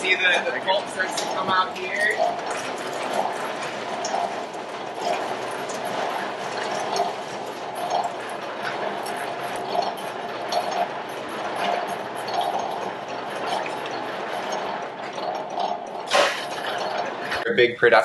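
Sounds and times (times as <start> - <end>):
coffee depulper wet churning: 0.0 - 17.5.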